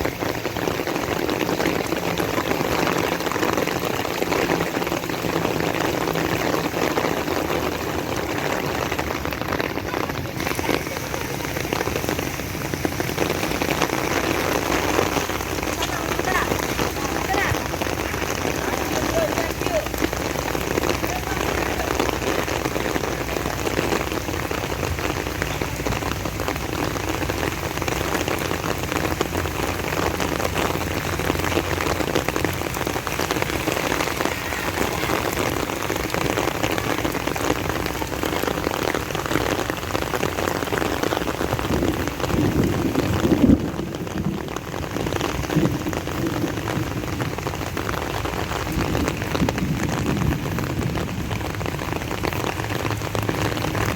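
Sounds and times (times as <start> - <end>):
rain pattering on surfaces: 0.0 - 53.9.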